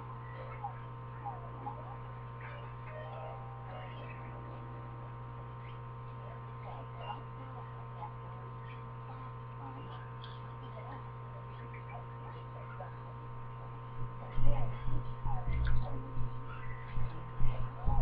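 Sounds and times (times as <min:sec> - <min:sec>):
faint indistinct voices: 0:00.0 - 0:18.0
steady electrical hum: 0:00.0 - 0:18.0.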